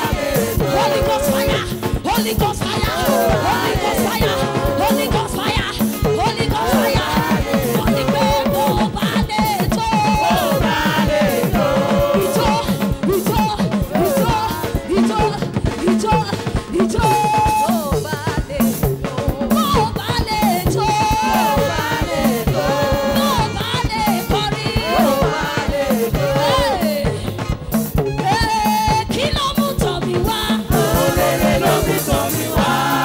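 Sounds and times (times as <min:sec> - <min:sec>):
congas: 0:00.0 - 0:33.0
drum kit: 0:00.0 - 0:33.0
voices singing: 0:00.0 - 0:33.0.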